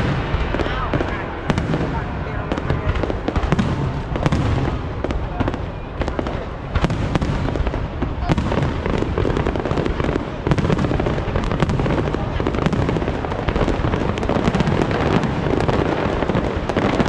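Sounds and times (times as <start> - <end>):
fireworks bangs and crackles: 0.0 - 17.0
low fireworks rumble: 0.0 - 17.0.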